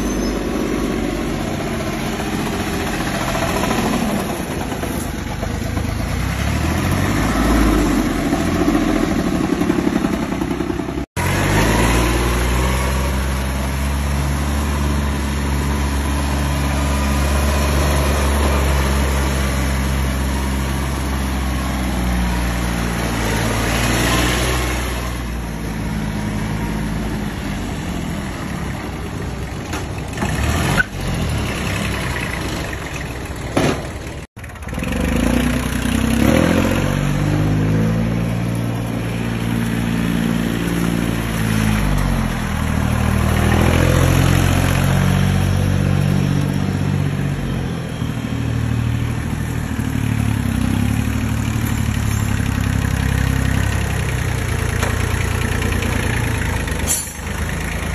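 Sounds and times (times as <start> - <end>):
diesel tractor engines running: 0.0 - 57.9.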